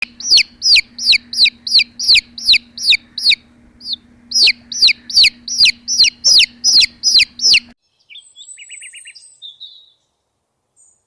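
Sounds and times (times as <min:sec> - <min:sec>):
bird calling: 0:00.0 - 0:10.0.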